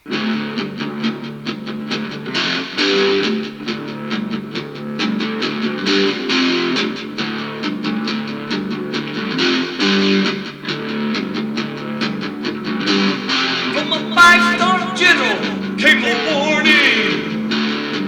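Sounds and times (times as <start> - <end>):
rock guitar riff: 0.0 - 18.0.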